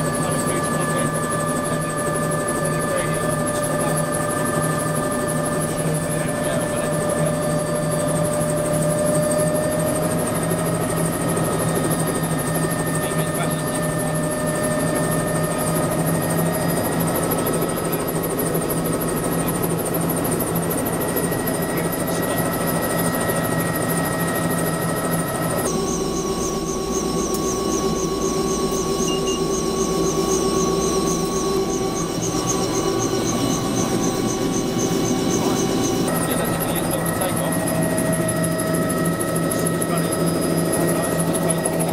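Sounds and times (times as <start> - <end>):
helicopter turbine whine: 0.0 - 41.9.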